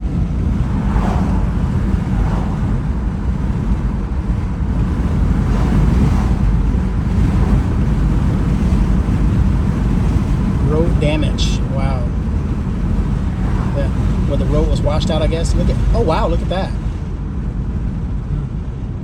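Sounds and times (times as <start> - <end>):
car road noise: 0.0 - 19.0
wind buffeting microphone: 0.0 - 19.0.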